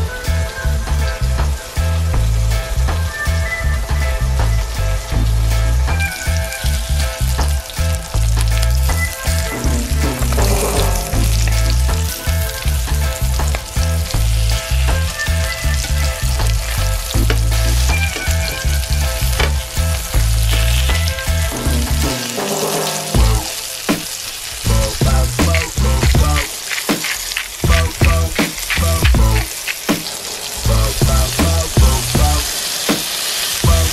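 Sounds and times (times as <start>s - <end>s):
fish sizzling in a pan: 0.0s - 33.9s.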